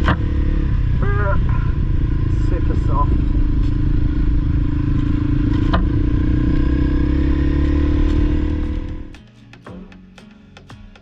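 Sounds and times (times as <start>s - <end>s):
dirt bike engine running: 0.0s - 9.2s.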